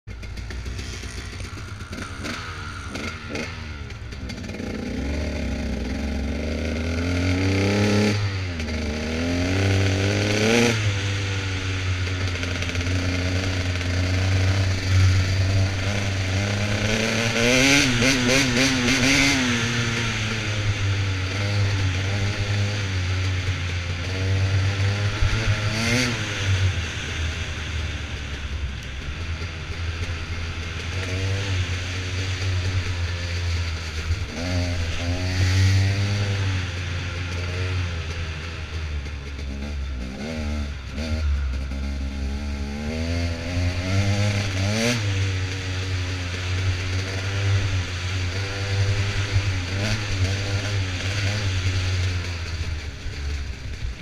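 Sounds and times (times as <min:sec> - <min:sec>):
dirt bike engine revving: 0:00.1 - 0:54.0.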